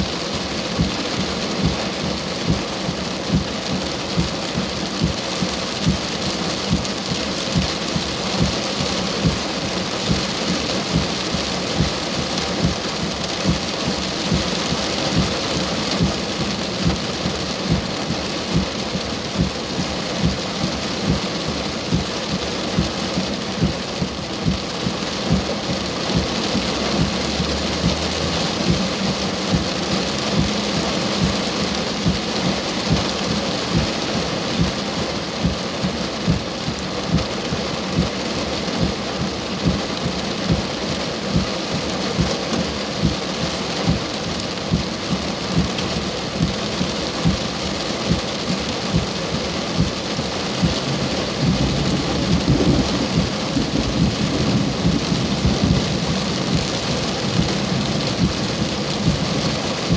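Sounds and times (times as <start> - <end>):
heavy rain pouring: 0.0 - 59.9
regular low thump: 0.8 - 40.7, 50.6 - 59.9.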